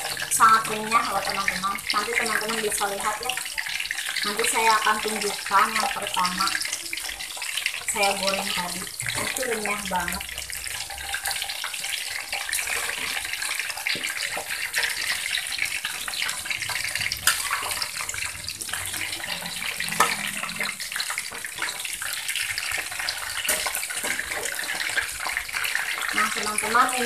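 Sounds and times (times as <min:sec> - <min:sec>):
food deep-frying in hot oil: 0:00.0 - 0:27.0.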